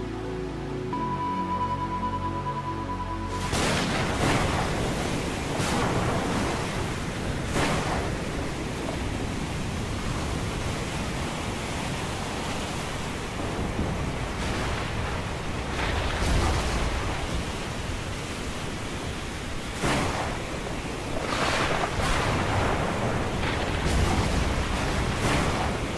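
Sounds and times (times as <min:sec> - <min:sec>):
wind: 0:00.0 - 0:25.9
stormy sea waves: 0:03.2 - 0:25.9.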